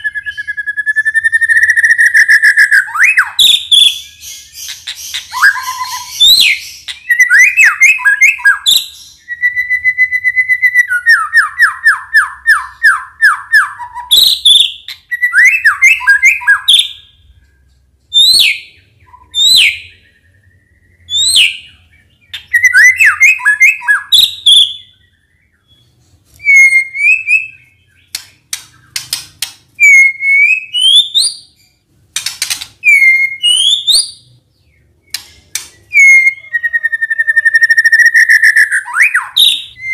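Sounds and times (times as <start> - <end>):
bird singing whistles and trills: 0.0 - 17.4, 18.1 - 29.1, 29.8 - 39.9.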